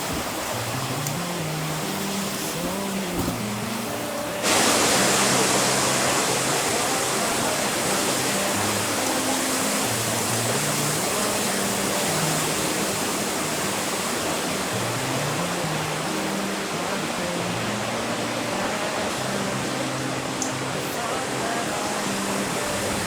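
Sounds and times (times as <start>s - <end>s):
slow low background music: 0.1s - 23.0s.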